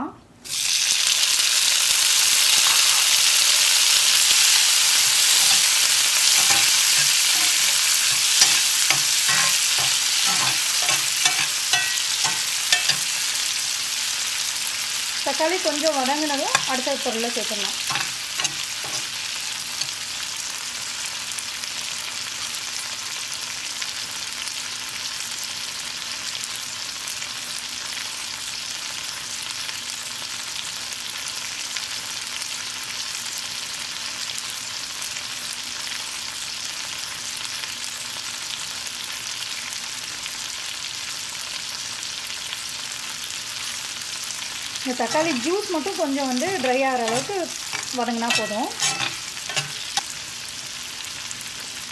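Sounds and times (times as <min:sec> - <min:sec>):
tomatoes sizzling in a pan: 0:00.4 - 0:51.9.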